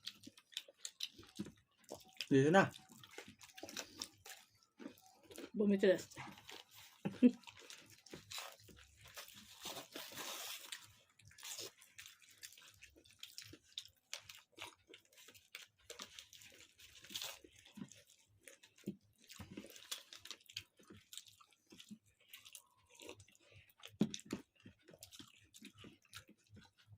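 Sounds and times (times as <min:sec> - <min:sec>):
person chewing food: 0:00.0 - 0:26.9.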